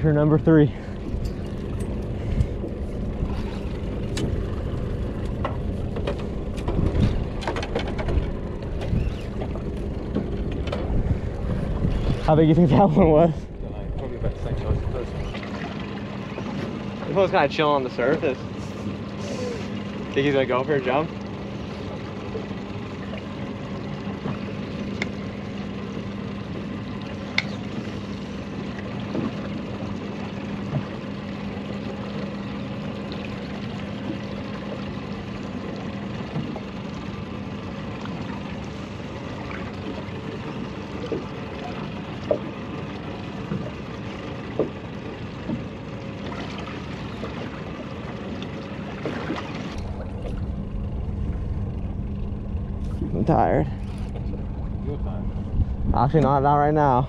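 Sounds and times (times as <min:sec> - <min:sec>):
outboard motor humming: 0:00.0 - 0:57.0
water washing against hull: 0:00.0 - 0:57.0.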